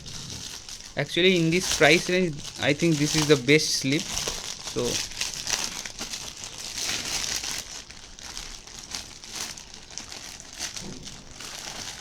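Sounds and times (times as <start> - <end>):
crinkling and rustling: 0.0 - 12.0.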